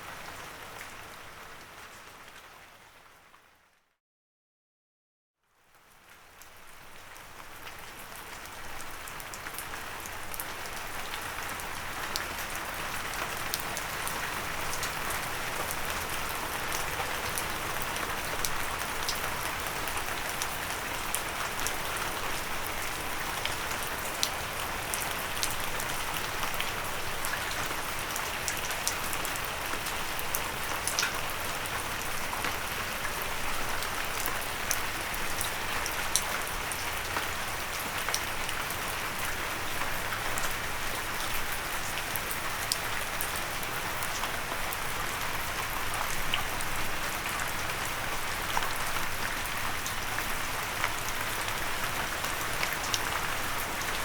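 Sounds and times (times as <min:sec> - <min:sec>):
rain on a windowsill: 0:00.0 - 0:03.9, 0:05.4 - 0:54.0.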